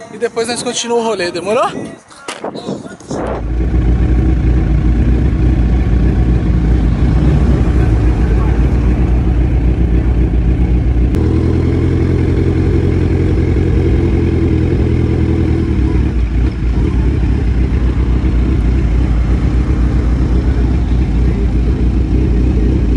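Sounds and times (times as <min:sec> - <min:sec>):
motorcycle engine running: 0:03.3 - 0:22.9.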